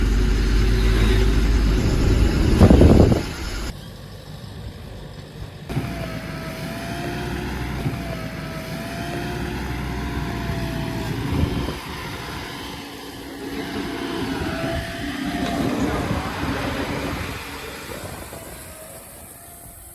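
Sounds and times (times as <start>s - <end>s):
thin whine: 0.0s - 3.8s, 5.7s - 19.9s
diesel engine running: 0.0s - 19.9s.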